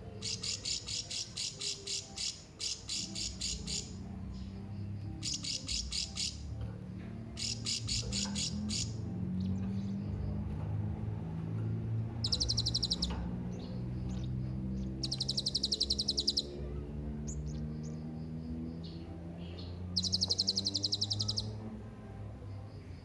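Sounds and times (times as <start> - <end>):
parrot trilling and chirping: 0.0 - 10.2, 12.0 - 18.0, 18.9 - 21.6.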